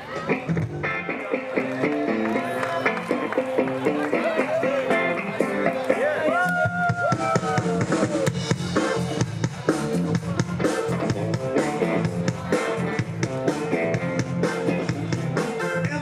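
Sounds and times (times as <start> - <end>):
rock band playing live: 0.0 - 16.0
drum kit beat: 2.8 - 16.0.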